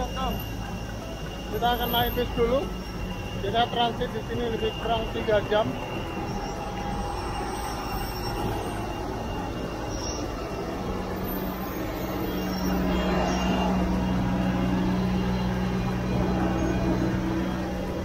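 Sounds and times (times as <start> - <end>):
apron noise roar: 0.0 - 18.0
bus engine humming: 0.0 - 18.0.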